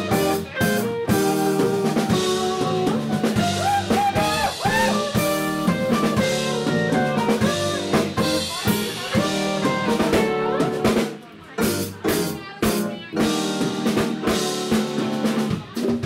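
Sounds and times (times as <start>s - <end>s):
jazz-funk band playing: 0.0s - 16.0s.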